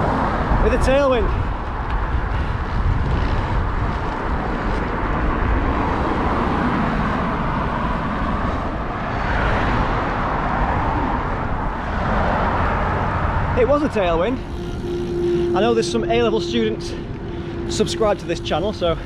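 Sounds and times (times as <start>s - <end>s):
wind rumbling on microphone: 0.0s - 19.0s
motor traffic passing: 1.4s - 19.0s.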